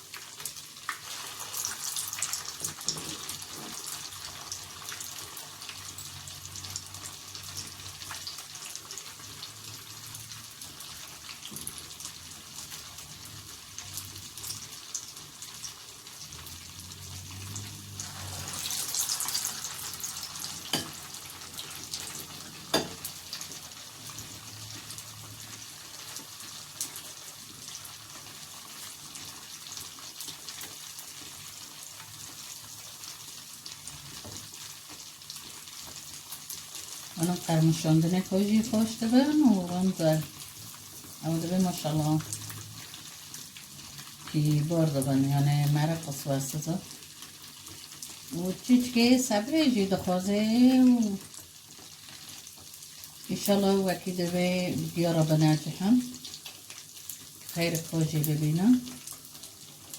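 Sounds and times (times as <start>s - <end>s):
food frying in hot oil: 0.0s - 59.9s.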